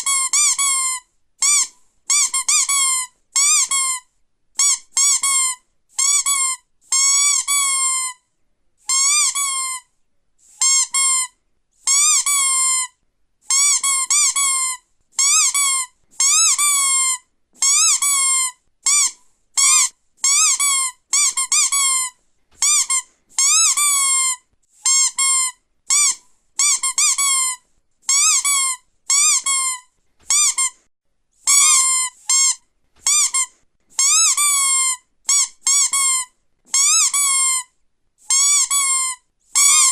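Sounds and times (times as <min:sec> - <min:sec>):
squeaky toy squeaking: 0:00.0 - 0:08.2, 0:08.8 - 0:39.9.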